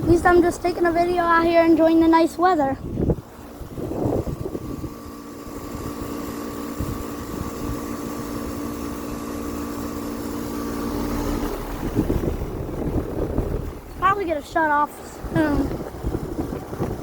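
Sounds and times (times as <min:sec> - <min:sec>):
air conditioner compressor hum: 0:00.0 - 0:17.0
condenser fan rushing: 0:00.0 - 0:17.0.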